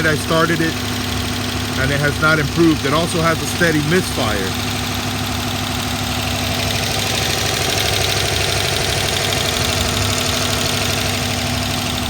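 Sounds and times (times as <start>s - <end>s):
car engine idling rough: 0.0s - 12.0s
engine tapping and clacking: 0.0s - 12.0s.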